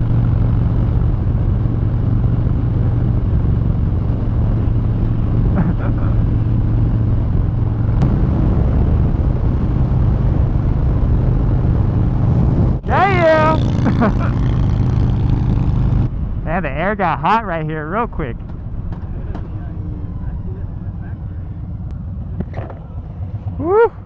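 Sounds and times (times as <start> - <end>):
motorcycle engine droning: 0.0 - 24.0
wind rush: 0.0 - 24.0.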